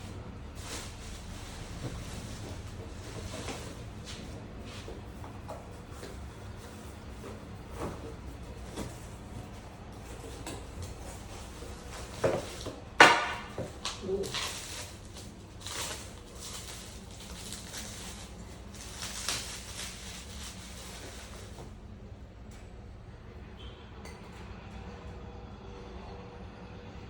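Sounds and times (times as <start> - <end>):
rustling: 0.0 - 21.8.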